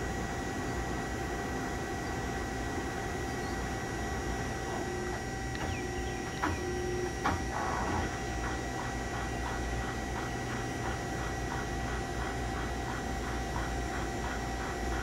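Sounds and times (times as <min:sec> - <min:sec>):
lathe machine hum: 0:00.0 - 0:15.0.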